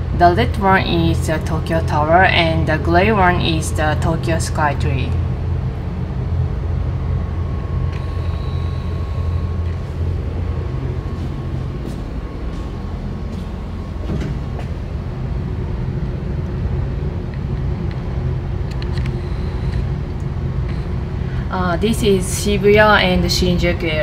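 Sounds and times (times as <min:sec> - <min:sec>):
distant city traffic rumble: 0:00.0 - 0:24.0
faint steady whine: 0:00.0 - 0:24.0.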